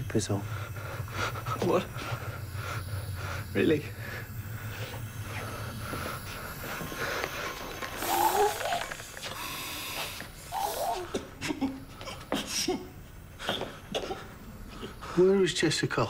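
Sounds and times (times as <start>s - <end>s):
heavy breathing through gas mask: 0.3s - 12.6s, 13.3s - 15.4s.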